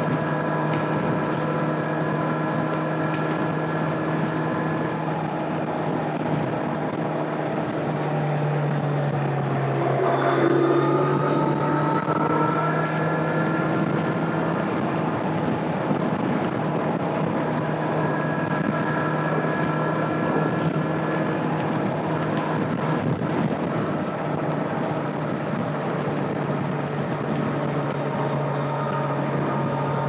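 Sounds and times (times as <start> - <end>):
motorcycle engine cruising: 0.0 - 30.0
wind rush on microphone: 0.0 - 30.0.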